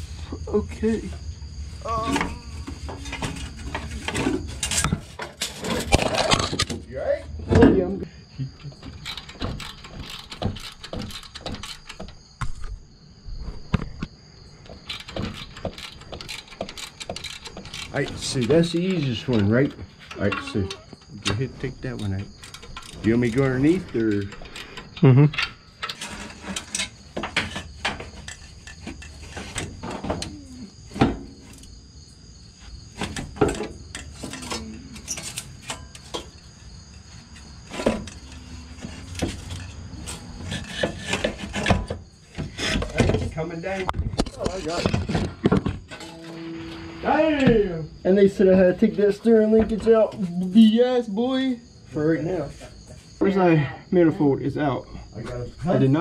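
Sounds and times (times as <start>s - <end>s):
metal knocks clunks and scrapes: 0.8s - 51.4s.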